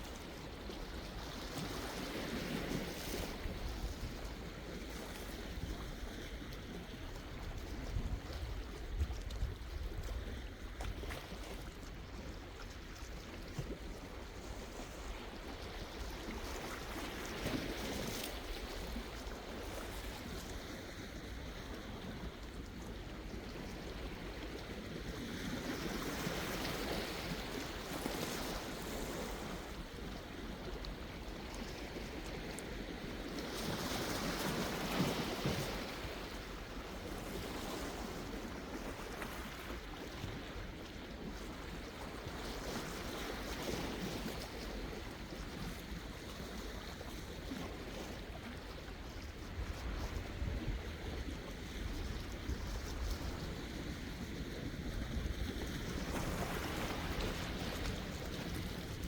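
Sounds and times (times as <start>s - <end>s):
sea waves washing onto shore: 0.0s - 59.0s.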